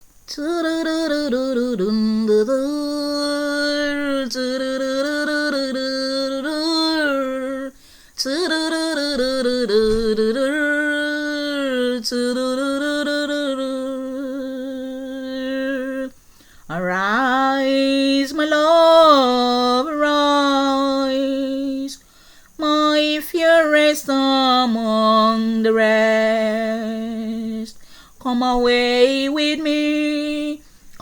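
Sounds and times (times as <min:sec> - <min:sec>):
person singing wordless melody: 0:00.3 - 0:22.0, 0:22.6 - 0:31.0.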